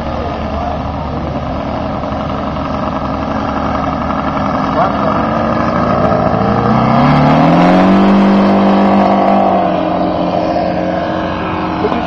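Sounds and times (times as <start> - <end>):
model plane radial engine: 0.0 - 12.0.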